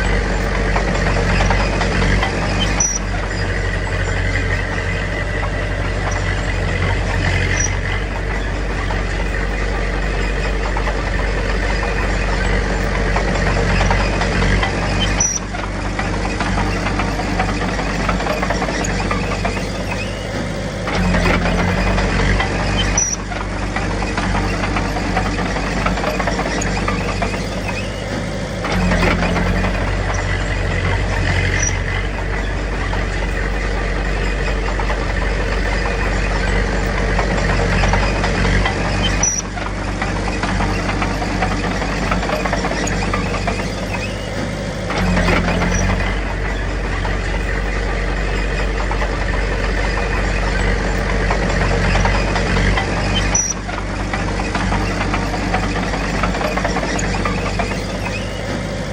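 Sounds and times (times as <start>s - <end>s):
heavy machinery diesel engine: 0.0s - 58.9s.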